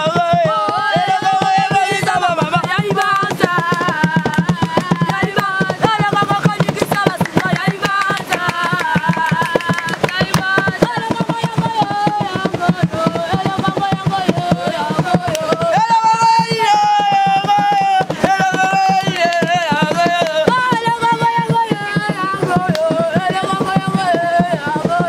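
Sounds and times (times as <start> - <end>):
quick percussion beat: 0.0 - 25.0.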